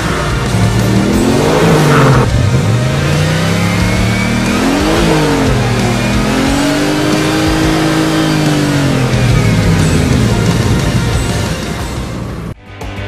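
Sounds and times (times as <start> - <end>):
engine revving: 0.0 - 12.6.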